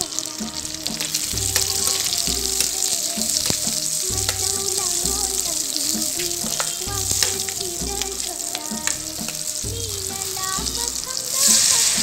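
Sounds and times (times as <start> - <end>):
background music with low beat: 0.0 - 12.0
oil sizzling with vegetables: 0.0 - 12.0.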